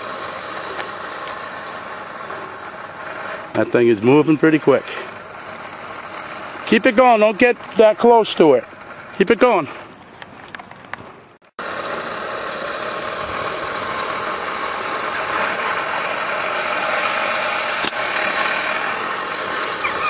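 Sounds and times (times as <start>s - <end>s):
machine motor whirring: 0.0s - 10.7s, 11.6s - 20.0s.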